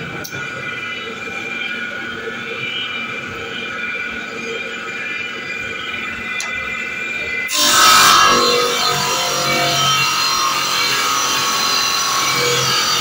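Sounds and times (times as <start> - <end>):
saw blade whining: 0.0 - 13.0.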